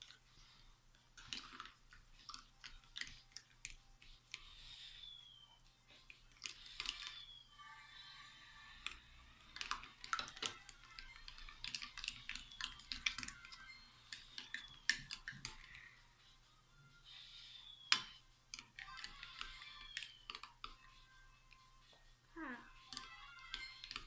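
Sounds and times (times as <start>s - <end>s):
spoon stirring thick mix: 0.0s - 16.3s, 17.0s - 21.6s, 22.6s - 24.0s.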